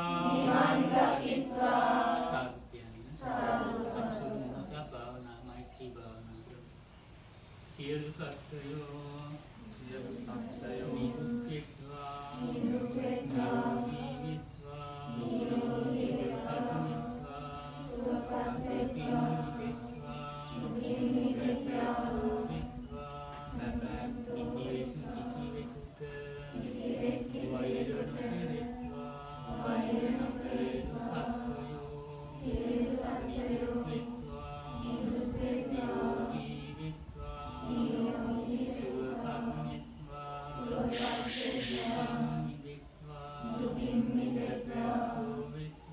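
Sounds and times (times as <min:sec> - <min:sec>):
sing-song chanting: 0:00.0 - 0:06.8, 0:07.6 - 0:45.9.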